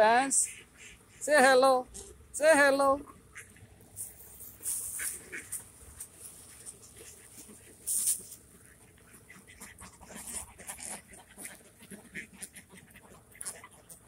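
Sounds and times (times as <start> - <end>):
ducks and birds calling: 0.0 - 1.3, 3.0 - 14.0.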